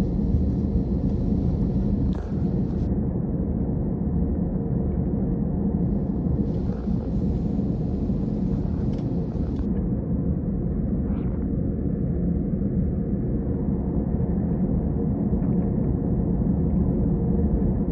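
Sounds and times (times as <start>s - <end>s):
jet engine and airflow rumble: 0.0s - 17.9s.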